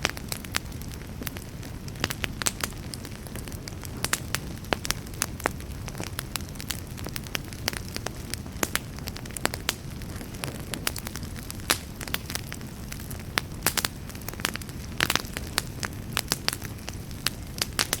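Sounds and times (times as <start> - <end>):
burning logs crackling and popping: 0.0 - 18.0
low rumble of flames: 0.0 - 18.0.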